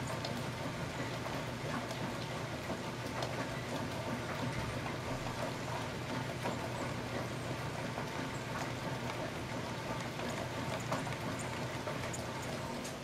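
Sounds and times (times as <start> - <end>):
raindrop ticks: 0.0 - 13.0
steady rain falling: 0.0 - 13.0.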